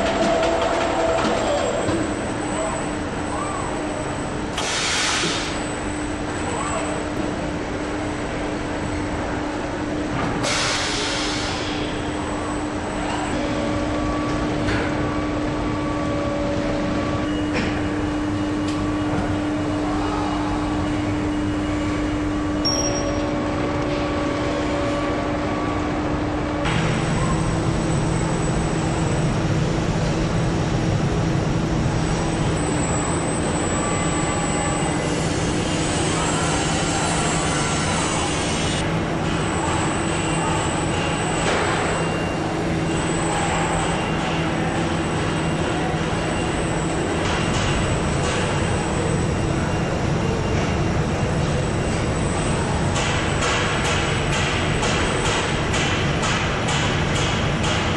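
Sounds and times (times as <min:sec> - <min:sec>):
factory machinery humming: 0:00.0 - 0:57.9.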